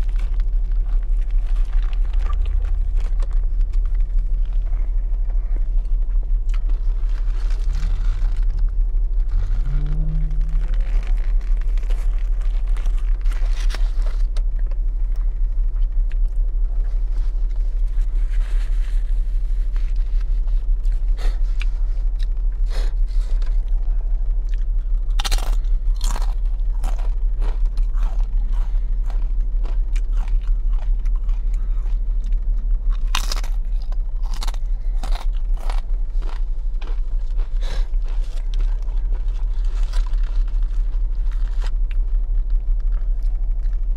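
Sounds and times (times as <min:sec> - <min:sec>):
close chewing and crunching: 0:00.0 - 0:43.9
steady low hum: 0:00.0 - 0:43.9.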